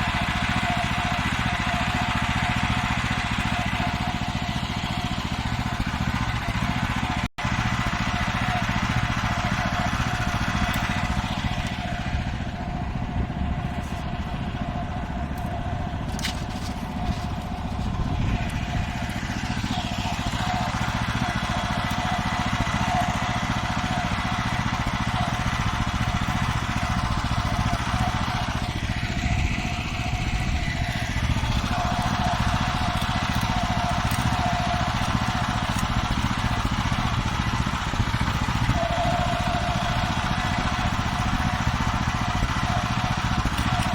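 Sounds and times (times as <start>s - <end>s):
constant whine: 0.0s - 43.9s
walk-behind tractor engine: 0.0s - 43.9s.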